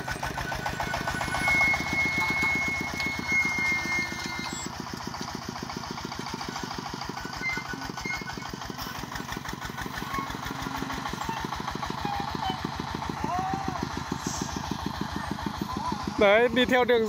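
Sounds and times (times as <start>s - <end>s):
diesel engine chugging: 0.0s - 17.0s.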